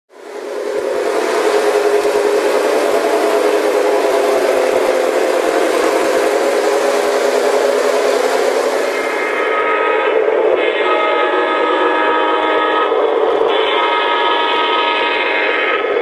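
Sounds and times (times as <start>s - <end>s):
toy train rumbling on track: 0.1s - 16.0s.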